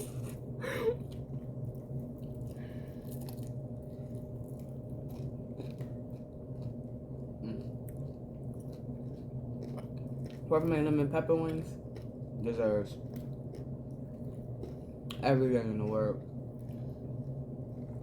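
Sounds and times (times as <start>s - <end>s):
people chewing and mouth smacking: 0.0s - 12.2s, 12.9s - 18.0s
steady low hum: 0.0s - 18.0s.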